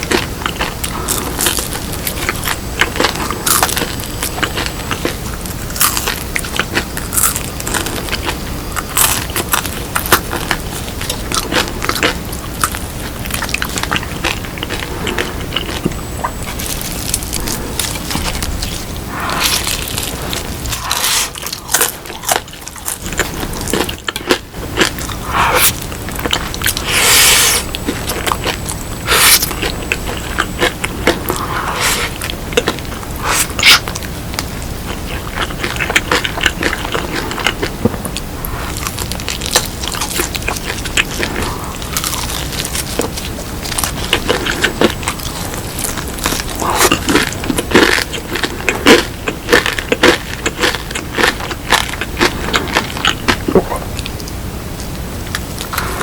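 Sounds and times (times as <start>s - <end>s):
crunchy chewing of fried chicken: 0.0s - 56.0s.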